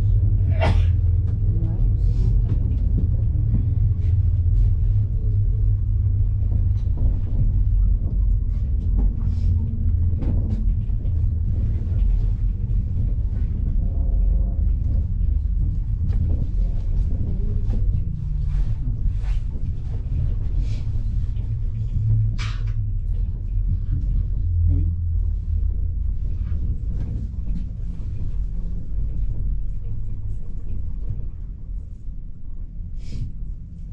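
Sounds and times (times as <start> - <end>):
cable car cabin rumbling: 0.0 - 33.9.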